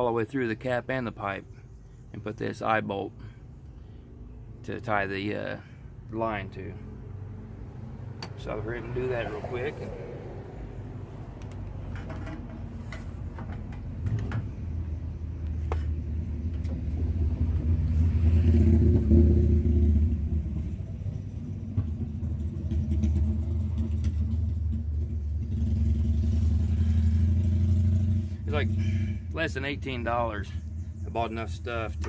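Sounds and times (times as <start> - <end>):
passing vehicle rumble: 3.2 - 32.0.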